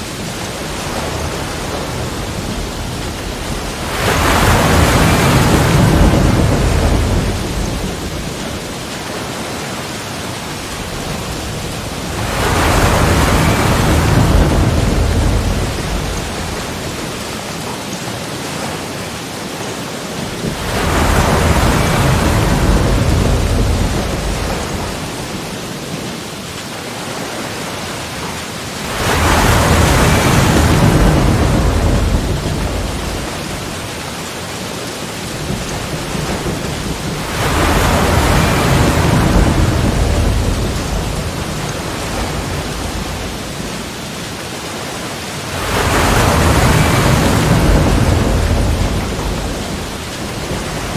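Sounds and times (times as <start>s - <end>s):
sea waves breaking: 0.0s - 50.9s.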